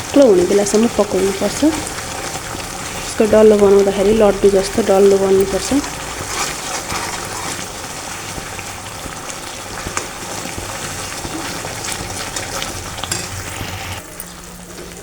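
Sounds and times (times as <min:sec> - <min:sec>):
syrup bubbling in a pan: 0:00.0 - 0:15.0.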